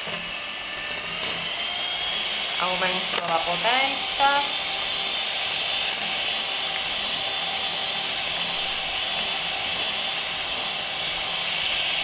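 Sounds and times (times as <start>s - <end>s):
electric hand mixer whipping: 0.0s - 12.0s.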